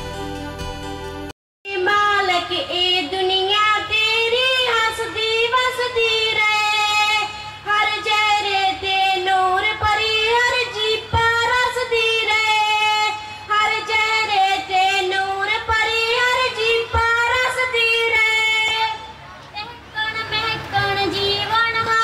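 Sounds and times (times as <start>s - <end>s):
woman singing in a high voice: 1.7s - 22.0s.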